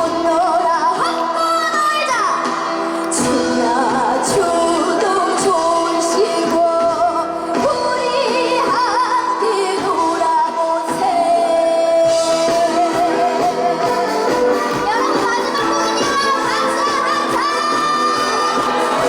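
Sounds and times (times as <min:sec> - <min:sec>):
girl singing with vibrato: 0:00.0 - 0:19.0
instrumental accompaniment: 0:00.0 - 0:19.0.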